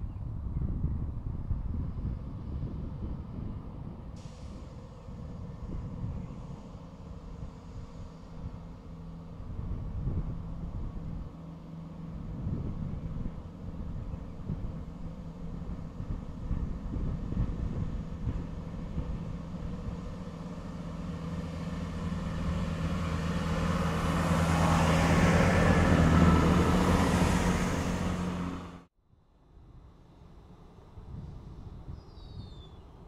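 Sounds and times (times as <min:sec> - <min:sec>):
diesel train engines humming: 0:00.9 - 0:28.9.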